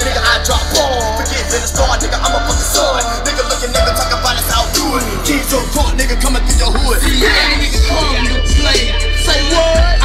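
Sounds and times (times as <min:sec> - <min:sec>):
rapping over heavy bass: 0:00.0 - 0:10.0.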